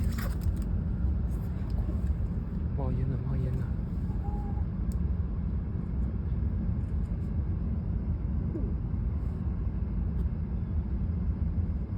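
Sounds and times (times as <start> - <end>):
train rumbling at speed: 0.0 - 11.9.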